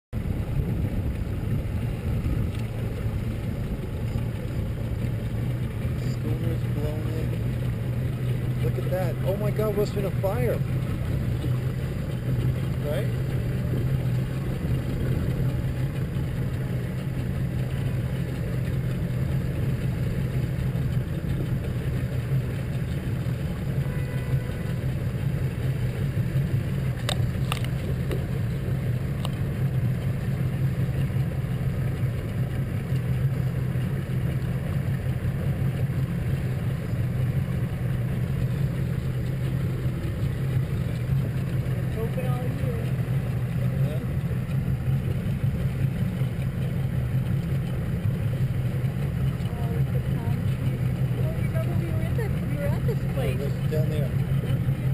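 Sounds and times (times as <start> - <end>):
hull and wind noise: 0.1 - 54.9
motorboat engine droning: 0.1 - 54.9.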